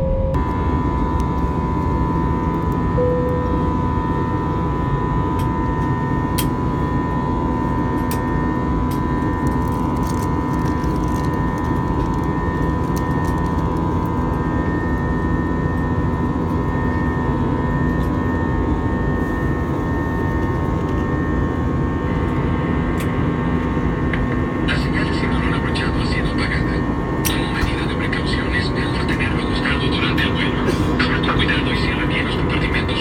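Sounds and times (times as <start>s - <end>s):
jet engine and airflow noise: 0.0s - 33.0s
steady hum tones: 0.0s - 33.0s.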